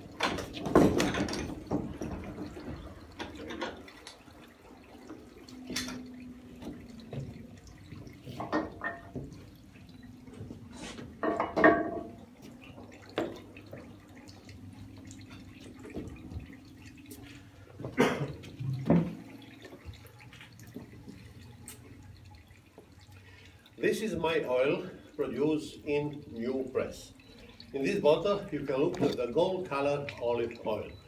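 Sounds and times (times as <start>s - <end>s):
water dripping and trickling into basin: 0.0s - 31.0s.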